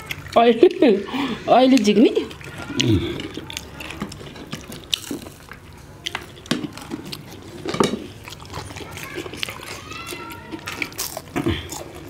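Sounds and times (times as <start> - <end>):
wet eating sounds: 0.0 - 12.0.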